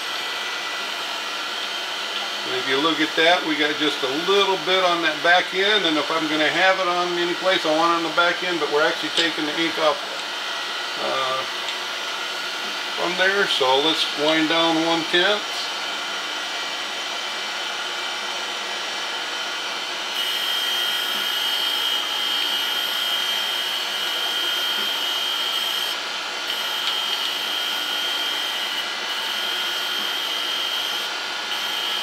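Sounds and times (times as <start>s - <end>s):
grinding wheel hiss and whine: 0.0s - 32.0s
surface grinder running: 0.0s - 32.0s.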